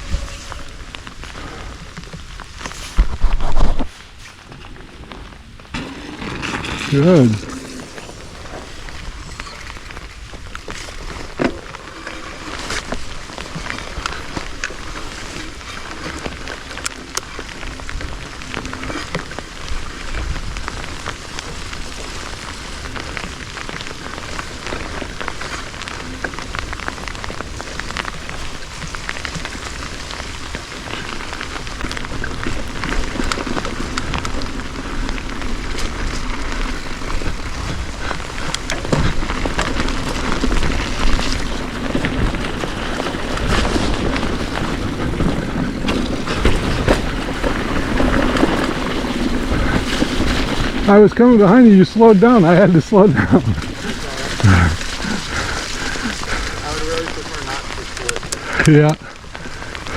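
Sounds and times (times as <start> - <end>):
wind rumble on microphone: 0.0 - 51.0
bike tyres crackling on gravel: 0.0 - 59.9.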